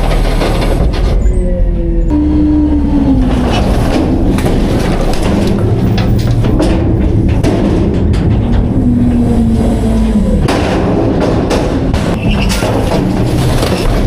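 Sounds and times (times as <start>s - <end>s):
metal bangs and clanks: 0.0s - 1.6s, 3.1s - 14.0s
garbage truck engine under load: 0.0s - 14.0s.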